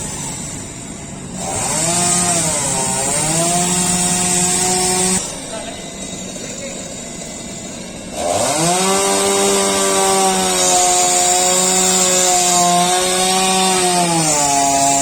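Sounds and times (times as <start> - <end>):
chainsaw cutting through tree: 0.0 - 15.0.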